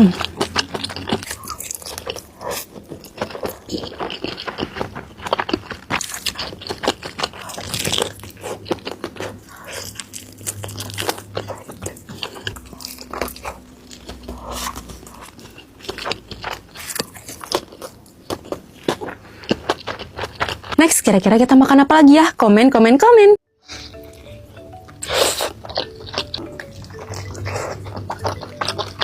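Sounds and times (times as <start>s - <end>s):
person chewing crunchy food: 0.0s - 20.8s, 23.7s - 29.0s.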